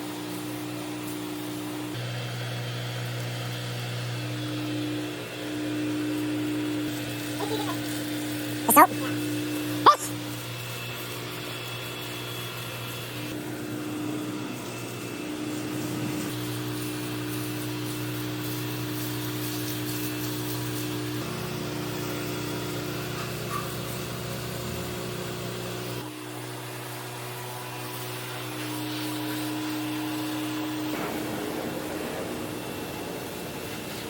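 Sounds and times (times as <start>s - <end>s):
pressure washer running: 0.0s - 31.7s.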